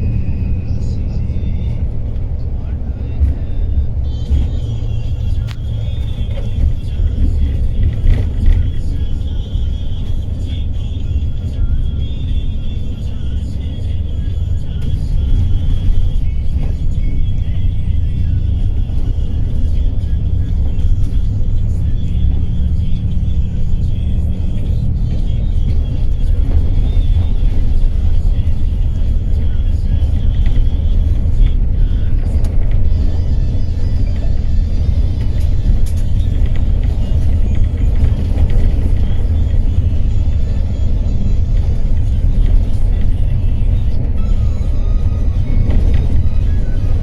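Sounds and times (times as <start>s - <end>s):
coach engine and road noise: 0.0s - 47.0s.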